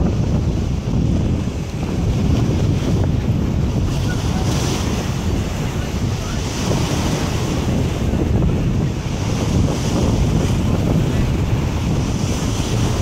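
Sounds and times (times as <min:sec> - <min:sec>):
choppy sea water: 0:00.0 - 0:13.0
wind buffeting microphone: 0:00.0 - 0:13.0.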